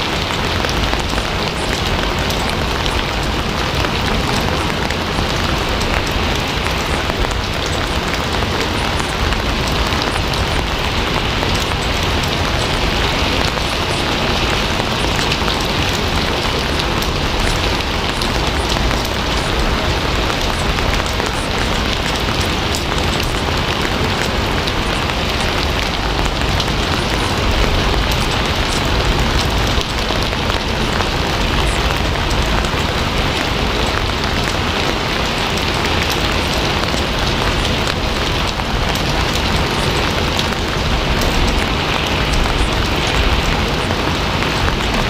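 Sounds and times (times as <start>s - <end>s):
heavy rain on a surface: 0.0s - 45.0s.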